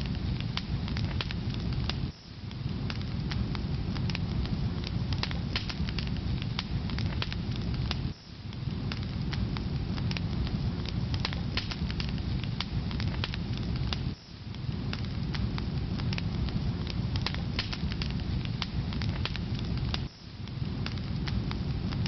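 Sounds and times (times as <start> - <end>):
firewood burning and crackling: 0.0 - 22.0.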